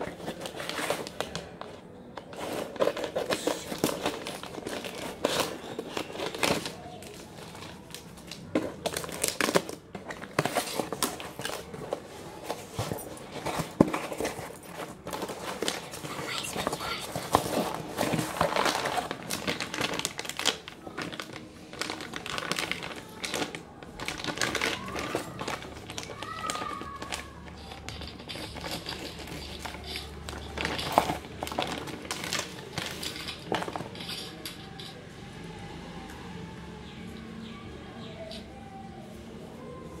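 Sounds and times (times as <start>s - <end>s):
packaging rustling and crinkling: 0.0s - 34.9s.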